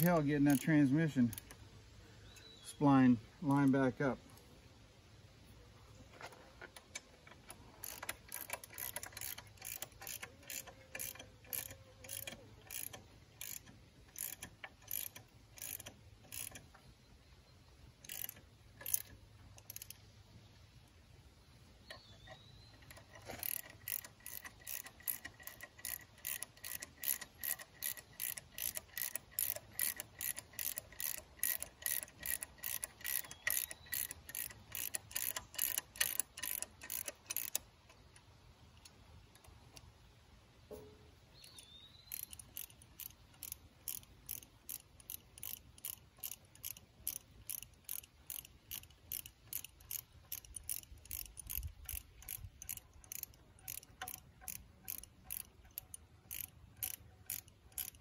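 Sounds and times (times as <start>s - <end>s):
socket ratchet clicking: 0.0s - 1.6s, 6.8s - 16.8s, 18.0s - 20.1s, 21.9s - 39.9s, 41.4s - 58.0s.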